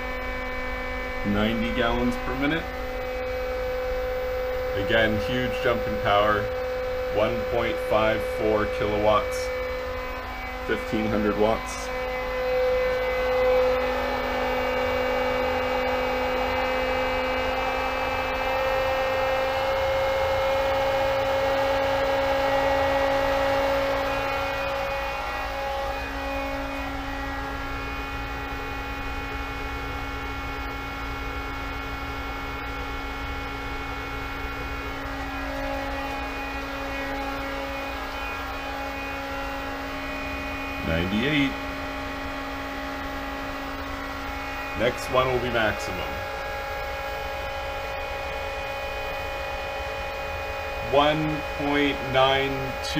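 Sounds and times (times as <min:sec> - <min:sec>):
pool pump motor hum with whine: 0:00.0 - 0:52.9.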